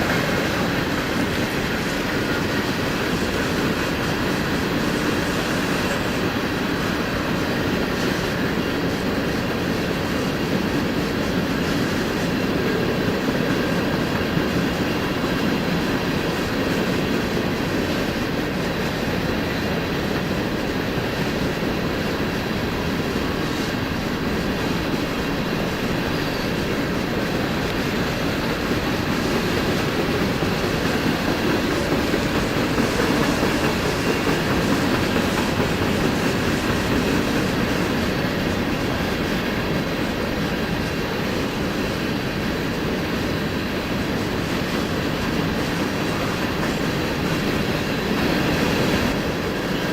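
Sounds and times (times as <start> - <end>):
freight train wheels clattering: 0.0 - 49.9.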